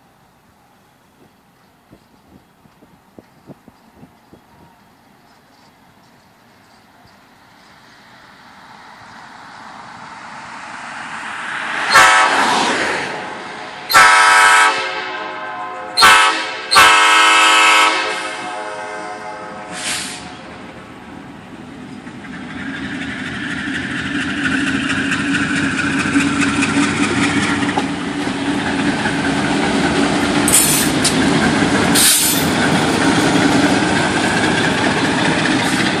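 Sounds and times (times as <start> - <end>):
diesel locomotive engine drone: 0.0 - 36.0
wheels rumbling on rail: 0.0 - 36.0.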